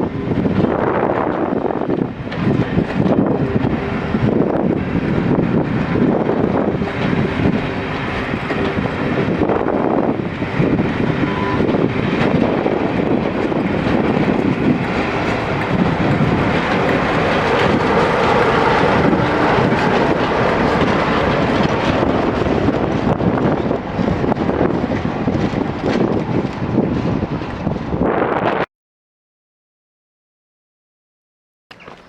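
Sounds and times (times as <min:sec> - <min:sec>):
train coaches rumbling on rails: 0:00.0 - 0:28.7.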